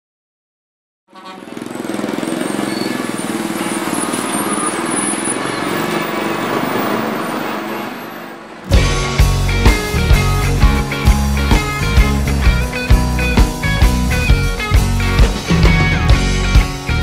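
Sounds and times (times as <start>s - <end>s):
traffic engines running: 1.1s - 17.0s.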